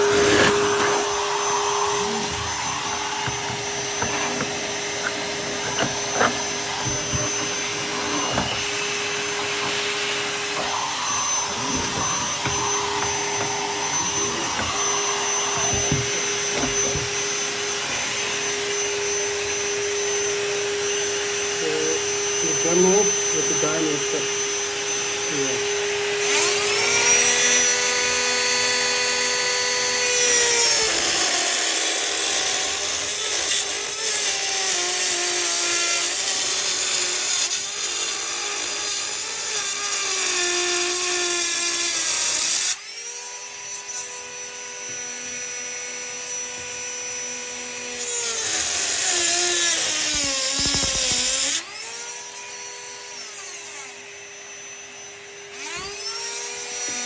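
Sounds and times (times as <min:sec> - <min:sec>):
rotary tool cutting tile: 0:00.0 - 0:57.0.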